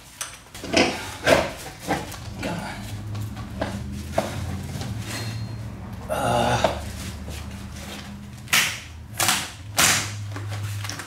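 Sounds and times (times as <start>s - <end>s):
steady low hum: 0.5s - 11.0s.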